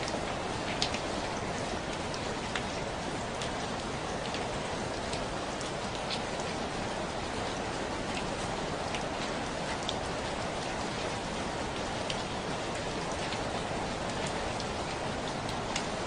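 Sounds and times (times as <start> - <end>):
raindrops ticking close by: 0.0 - 16.0
steady rainfall hiss: 0.0 - 16.0.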